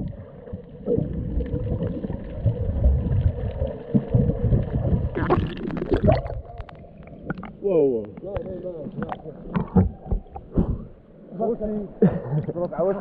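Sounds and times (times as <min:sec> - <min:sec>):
muffled underwater rumble: 0:00.0 - 0:11.4
underwater splashing: 0:00.0 - 0:11.4.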